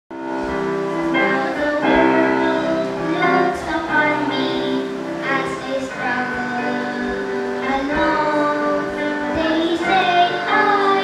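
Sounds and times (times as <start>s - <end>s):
musical accompaniment: 0.1s - 11.0s
boys singing gospel song: 1.0s - 11.0s.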